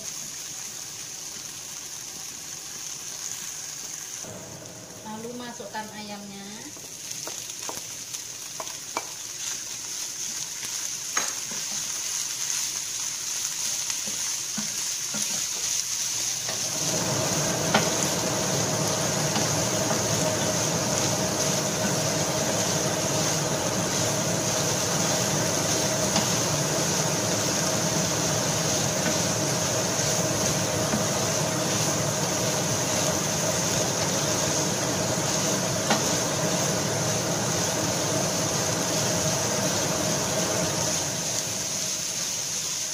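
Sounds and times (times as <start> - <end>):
chicken sizzling in oil: 0.0 - 42.9.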